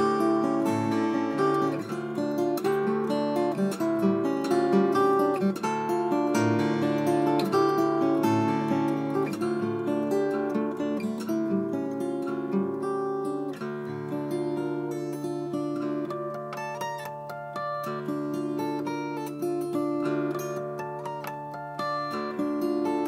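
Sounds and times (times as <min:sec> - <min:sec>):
fingerstyle acoustic guitar: 0:00.0 - 0:23.0.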